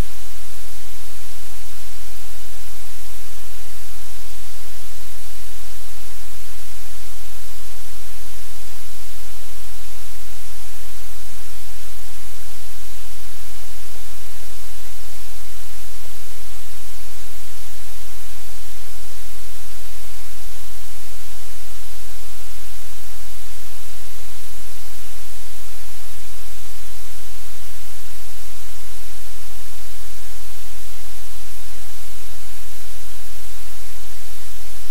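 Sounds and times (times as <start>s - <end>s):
static hiss: 0.0s - 34.9s.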